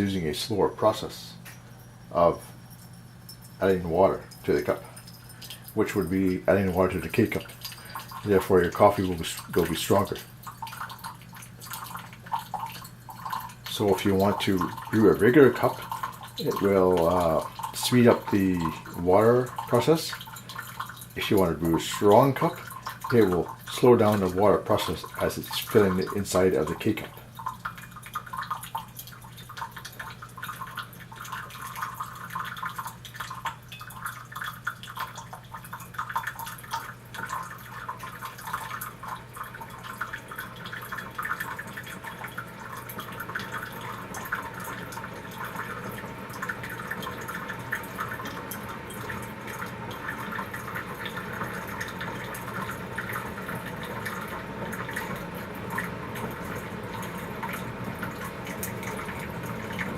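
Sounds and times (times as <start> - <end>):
coffee maker humming: 0.0 - 59.9
water streaming into a mug: 0.0 - 59.9.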